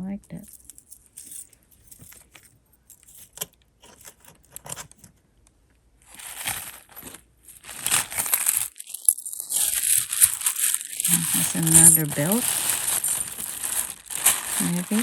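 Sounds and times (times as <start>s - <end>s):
crinkling and rustling: 0.4s - 5.3s, 6.0s - 15.0s.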